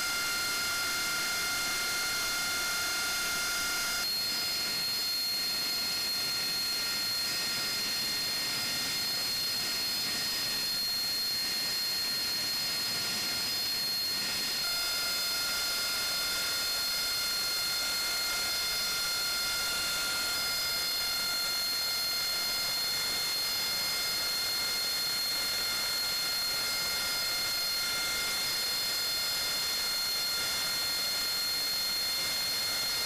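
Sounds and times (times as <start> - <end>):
jet turbine whine: 0.0 - 33.0.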